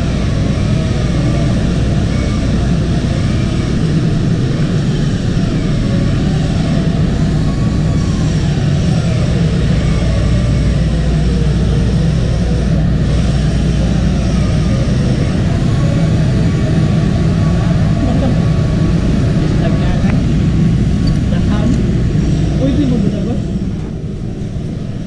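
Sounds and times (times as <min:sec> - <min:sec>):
ship engine room machinery: 0:00.0 - 0:25.0.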